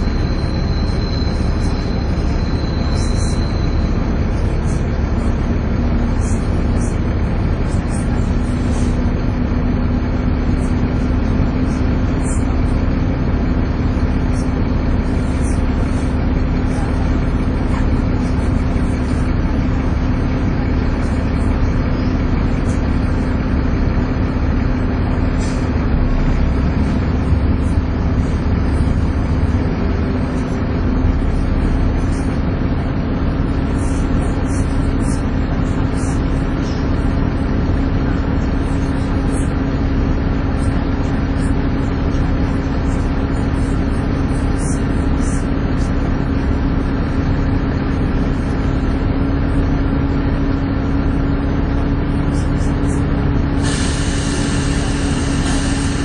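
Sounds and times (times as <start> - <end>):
diesel bus engine rumble: 0.0 - 56.0
steady engine whine: 0.0 - 56.0.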